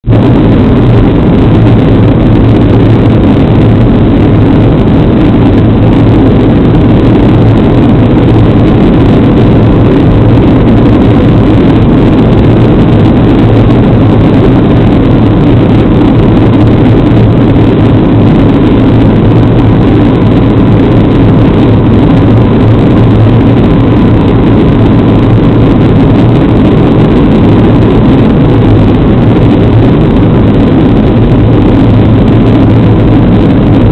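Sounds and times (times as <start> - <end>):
airplane cabin roar: 0.0 - 33.9.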